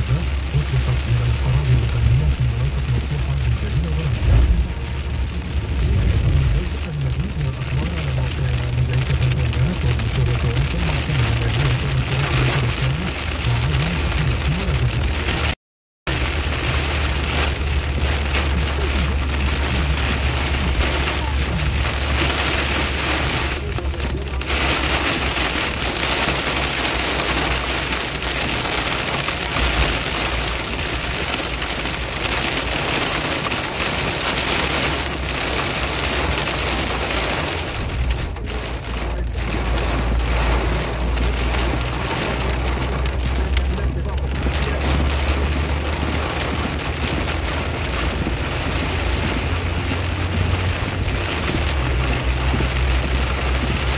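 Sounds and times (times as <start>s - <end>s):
low engine and road hum: 0.0s - 53.9s
rain hissing: 0.0s - 53.9s
tyres on wet road: 0.0s - 53.9s.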